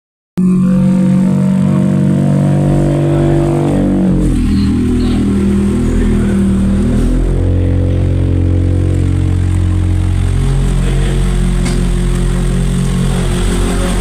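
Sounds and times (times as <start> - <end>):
car engine revving: 0.4 - 14.0.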